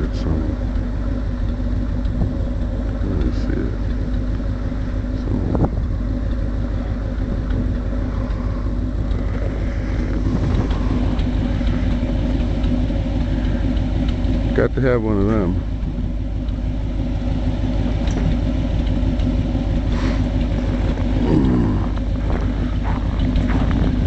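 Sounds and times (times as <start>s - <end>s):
snowmobile engine running: 0.0s - 24.0s.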